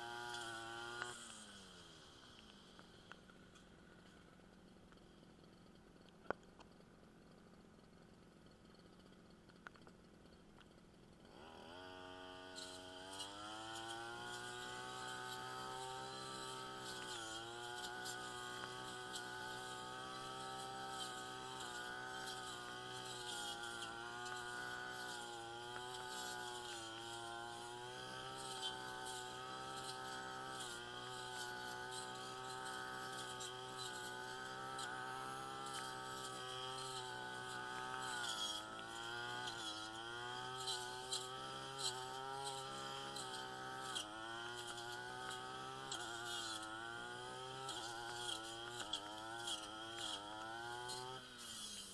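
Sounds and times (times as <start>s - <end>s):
brush cutter engine running: 0.0s - 7.6s, 8.9s - 51.9s.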